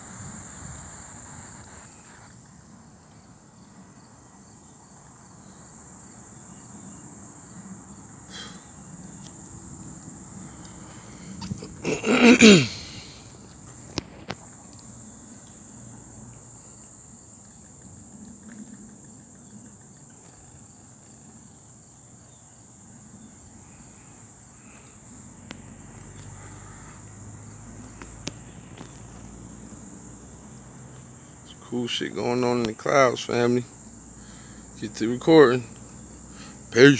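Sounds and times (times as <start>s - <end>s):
insects trilling: 0.0s - 36.9s.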